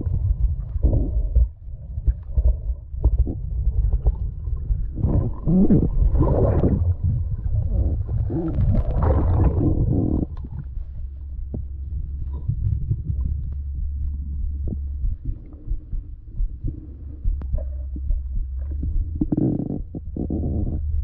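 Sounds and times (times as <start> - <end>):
muffled underwater water rumble: 0.0 - 21.0.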